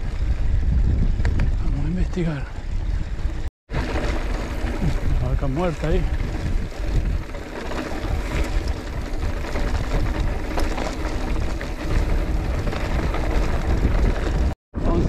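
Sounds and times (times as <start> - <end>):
low road noise: 0.0 - 15.0
wind buffeting microphone: 0.0 - 15.0.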